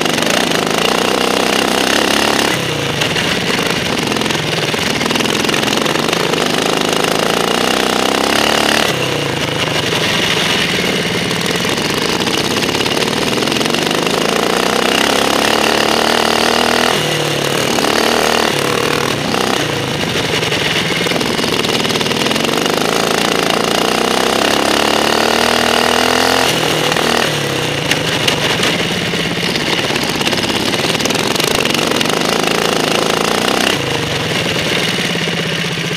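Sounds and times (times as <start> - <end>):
lawn mower engine revving: 0.0 - 35.9.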